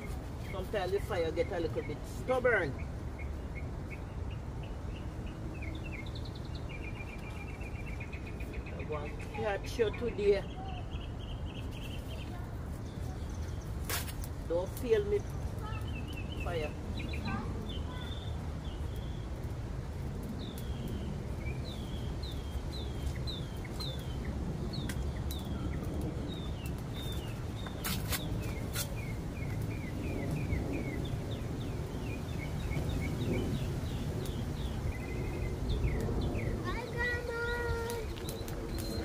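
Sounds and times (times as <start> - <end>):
bird chirping: 0.0 - 13.9, 14.5 - 19.4, 20.3 - 39.0.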